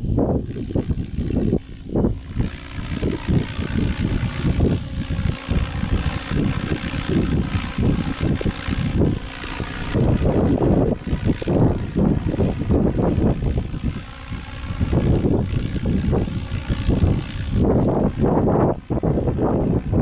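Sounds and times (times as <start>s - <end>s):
model helicopter whine: 0.0s - 20.0s
wind buffeting microphone: 0.0s - 20.0s.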